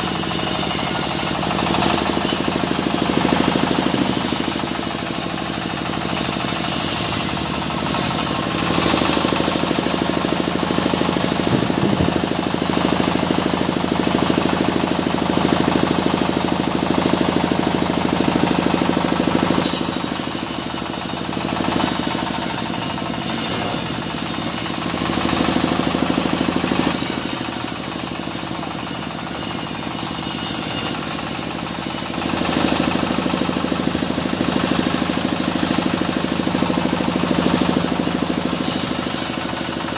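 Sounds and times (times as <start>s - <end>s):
sawmill blade cutting wood: 0.0s - 39.9s.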